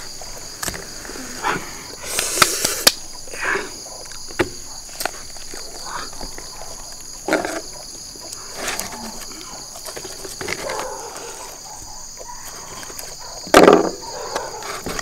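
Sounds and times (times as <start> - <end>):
insect chorus chirring: 0.0 - 15.0.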